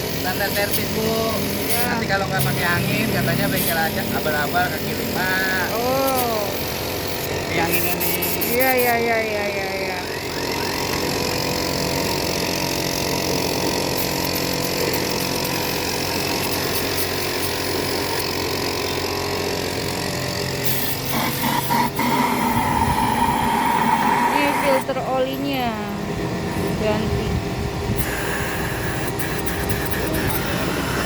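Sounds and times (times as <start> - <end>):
air blow gun hissing: 0.0 - 25.0, 27.9 - 31.0
mechanical hum: 0.0 - 31.0.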